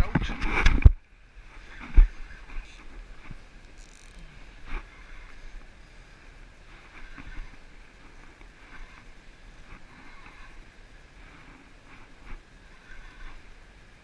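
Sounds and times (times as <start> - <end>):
wind rumble on microphone: 0.0 - 14.0
water lapping against kayak: 0.1 - 14.0.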